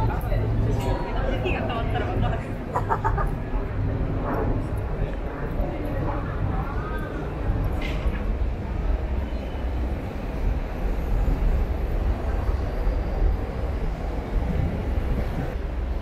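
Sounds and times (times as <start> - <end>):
city street noise: 0.0 - 16.0.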